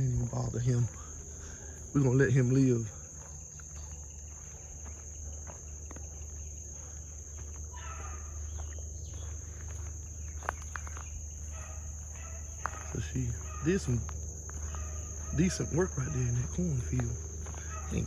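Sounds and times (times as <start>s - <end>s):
faint distant sounds: 0.0s - 18.0s
faint low hum: 0.0s - 18.0s
insects chorus: 0.0s - 18.0s.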